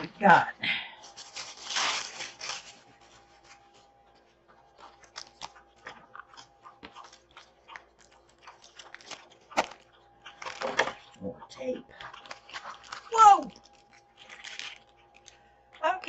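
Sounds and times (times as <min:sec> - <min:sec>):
packaging rustling and crinkling: 0:01.0 - 0:11.2, 0:12.0 - 0:15.4.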